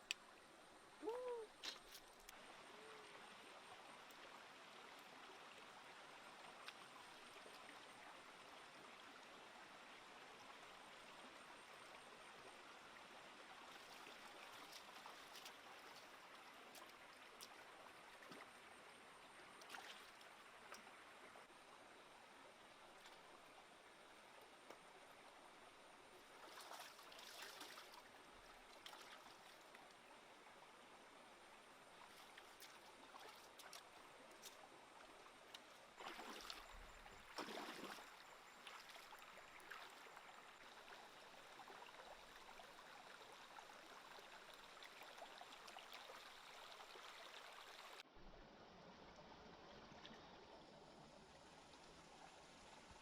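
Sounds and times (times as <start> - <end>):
small stream trickling: 0.0 - 53.0.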